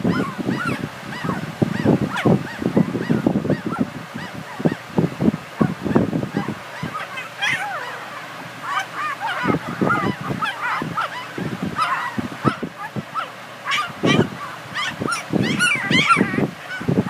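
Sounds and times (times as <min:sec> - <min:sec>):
puppies squealing and whimpering: 0:00.0 - 0:17.0.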